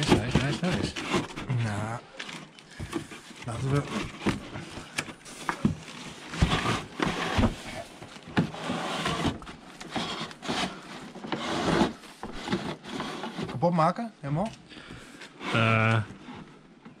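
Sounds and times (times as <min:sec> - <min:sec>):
cardboard rubbing and scraping: 0:00.0 - 0:13.8, 0:15.3 - 0:16.4.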